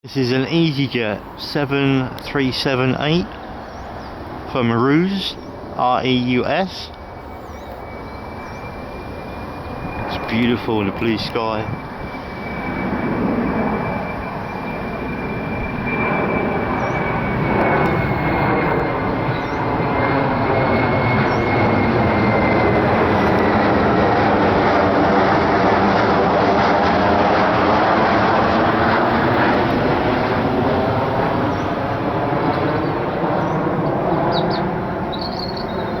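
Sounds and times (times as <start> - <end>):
high fan whine: 0.0 - 36.0
jet engines passing by: 0.0 - 36.0.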